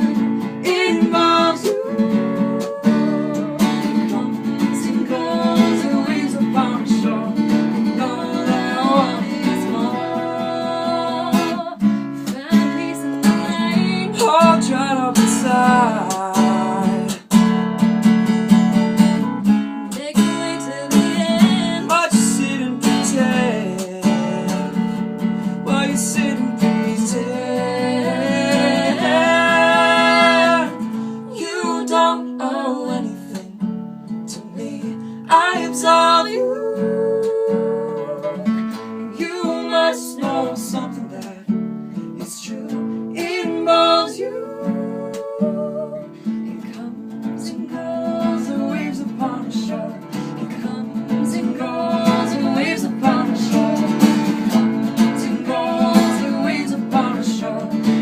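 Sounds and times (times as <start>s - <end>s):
person singing: 0.0s - 17.3s, 19.9s - 33.6s, 34.3s - 58.0s
strummed acoustic guitar: 0.0s - 58.0s.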